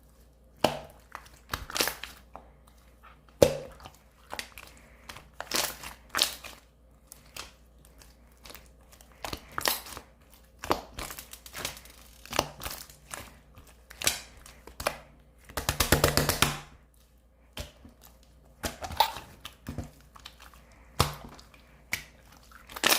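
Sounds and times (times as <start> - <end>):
slime squished by hand: 0.5 - 22.9.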